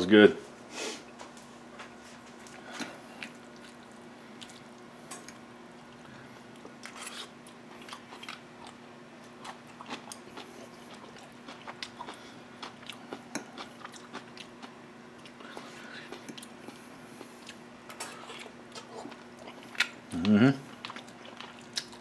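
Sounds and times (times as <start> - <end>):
steady low hum: 0.0 - 22.0
person chewing: 2.4 - 22.0.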